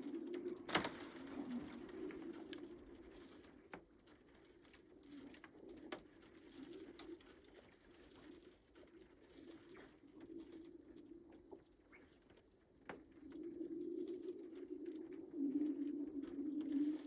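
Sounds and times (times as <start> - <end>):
ice crackling and ticking: 0.0 - 17.0.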